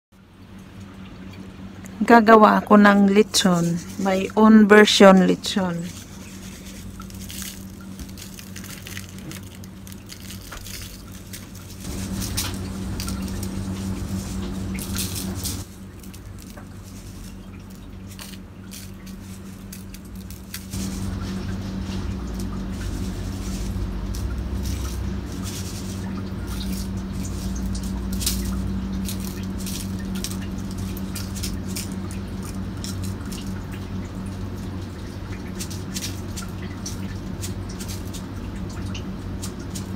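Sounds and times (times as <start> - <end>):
steady low hum: 0.1 - 39.9
salt grains pattering: 3.3 - 39.9.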